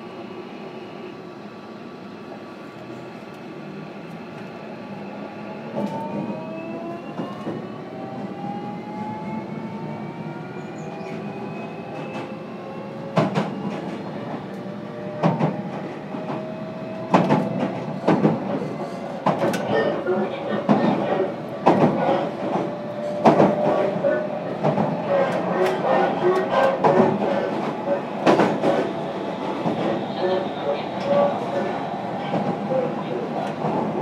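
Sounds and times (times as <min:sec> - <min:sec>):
train steady hum: 0:00.0 - 0:34.0.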